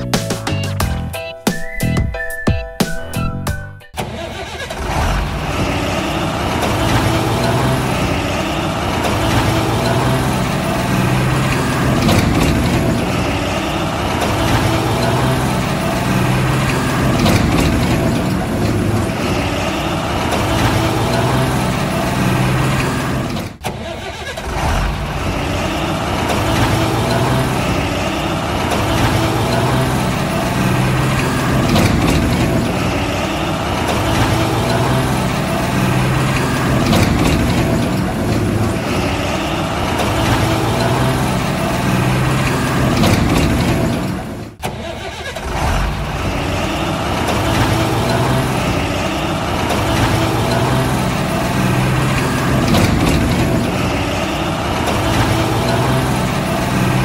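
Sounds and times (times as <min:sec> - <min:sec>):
diesel truck engine running: 0:03.0 - 0:57.0.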